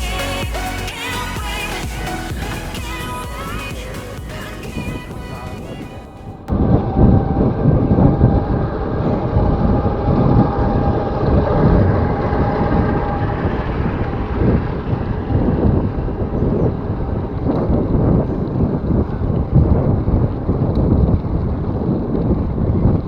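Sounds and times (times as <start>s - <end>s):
faint steady whine: 0.0s - 23.0s
wind buffeting microphone: 1.3s - 23.0s.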